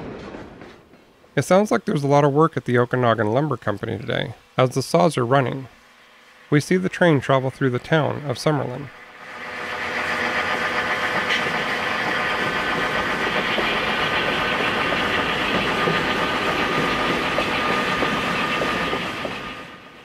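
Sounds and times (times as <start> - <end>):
diesel locomotive engine running: 1.4 - 20.0.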